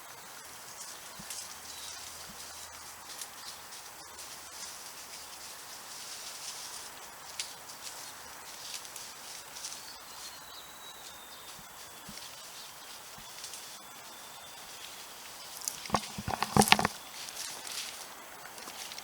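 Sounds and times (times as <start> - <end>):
undergrowth rustling and crackling: 0.7 - 19.0.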